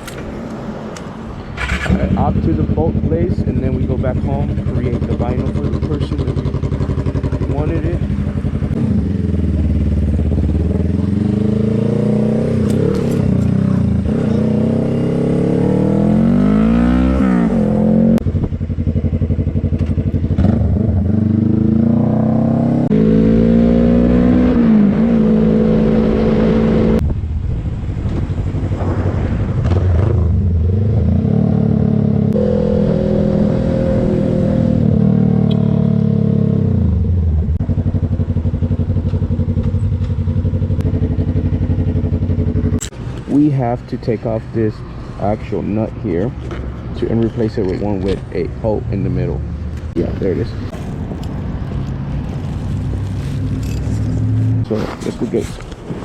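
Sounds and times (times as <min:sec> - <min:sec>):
motorcycle engine accelerating: 0:01.4 - 0:27.1, 0:27.9 - 0:43.3, 0:48.9 - 0:55.7.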